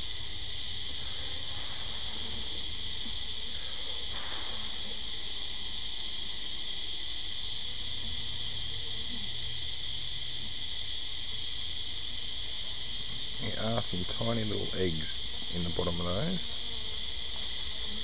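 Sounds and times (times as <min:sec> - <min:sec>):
shrill insect chorus: 0:00.0 - 0:18.0.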